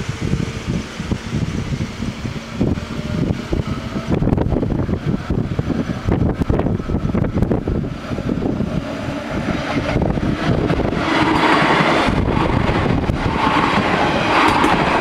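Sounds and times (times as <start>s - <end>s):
electric train passing: 0.0s - 15.0s
wind buffeting microphone: 0.0s - 15.0s.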